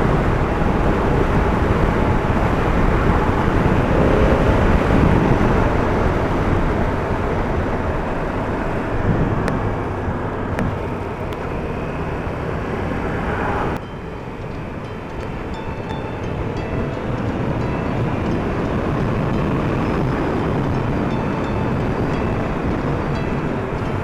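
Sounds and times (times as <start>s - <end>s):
wind rush from moving motorcycle: 0.0s - 24.0s.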